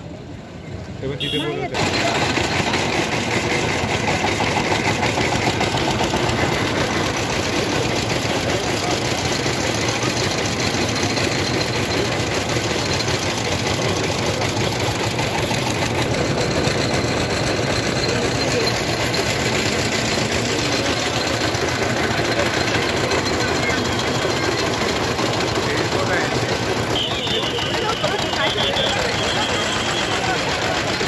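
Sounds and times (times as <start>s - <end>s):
sugarcane crusher engine clattering: 1.3s - 31.0s.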